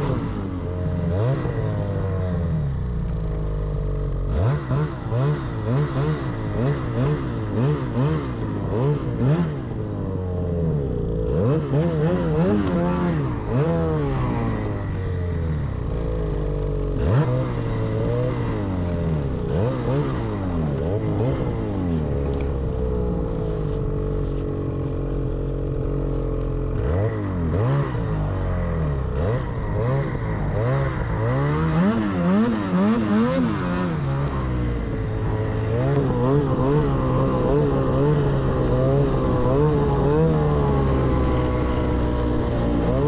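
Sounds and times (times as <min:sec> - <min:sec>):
snowmobile engine revving: 0:00.0 - 0:43.0.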